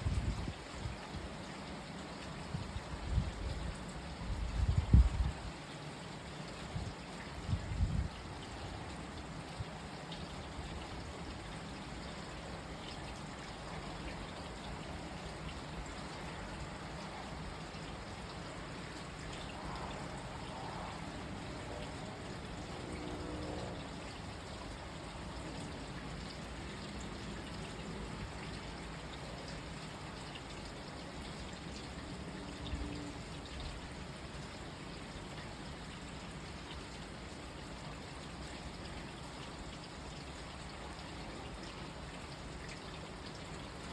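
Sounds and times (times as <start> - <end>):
steady rain falling: 0.0 - 43.9
water trickling and pouring: 0.0 - 43.9.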